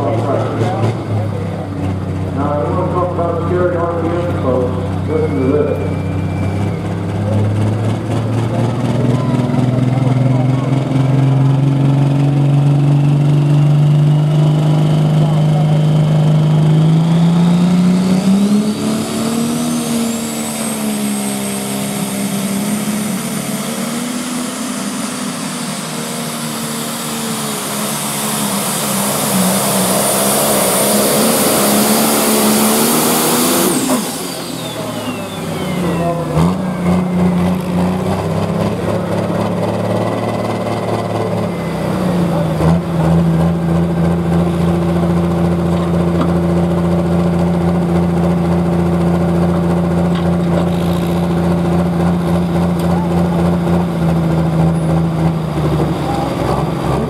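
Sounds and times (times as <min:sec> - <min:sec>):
high turbo whine: 0:00.0 - 0:57.0
tractor engine at full throttle: 0:00.0 - 0:57.0.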